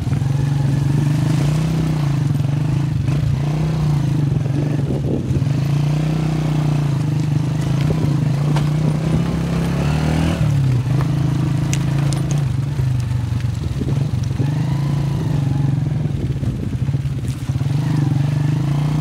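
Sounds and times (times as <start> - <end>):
rattling over stony ground: 0.0 - 19.0
vehicle engine running: 0.0 - 19.0.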